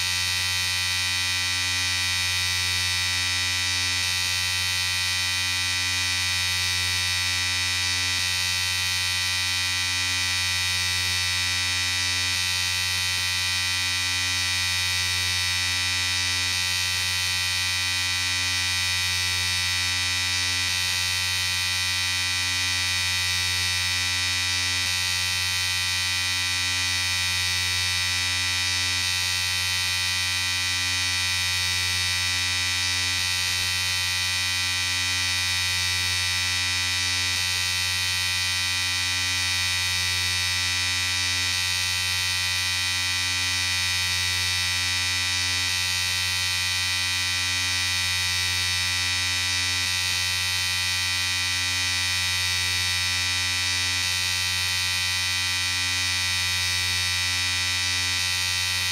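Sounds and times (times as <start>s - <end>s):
electric shaver buzzing: 0.0s - 58.9s.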